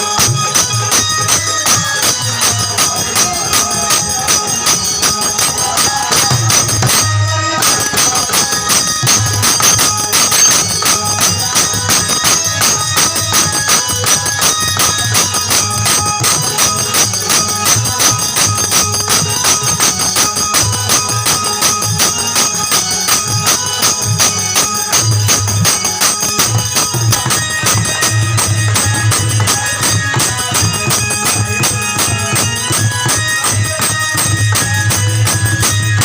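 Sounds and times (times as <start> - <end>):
jingling percussion beat: 0.0 - 36.0.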